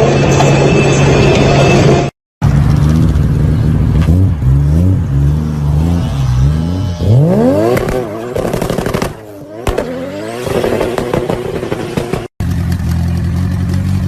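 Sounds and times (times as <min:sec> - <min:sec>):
car engine revving: 0:02.4 - 0:14.0.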